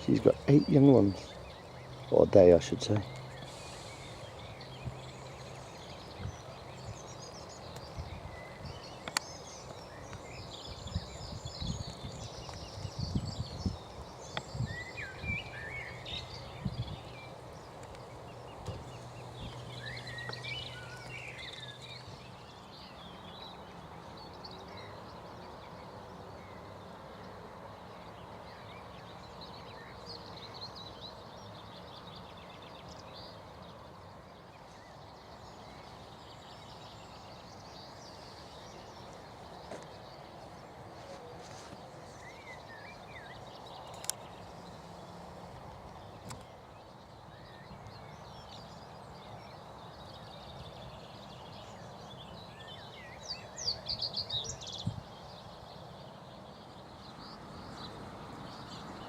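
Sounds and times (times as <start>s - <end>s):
outdoor background noise: 0.0s - 59.0s
songbirds singing and chirping: 0.0s - 59.0s.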